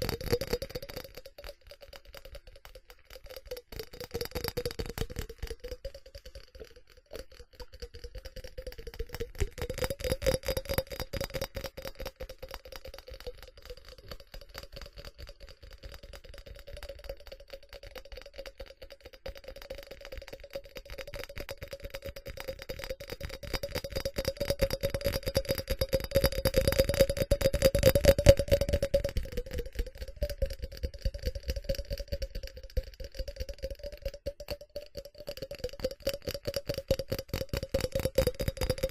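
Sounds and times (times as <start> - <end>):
rapid tapping on ceramic: 0.0 - 38.9.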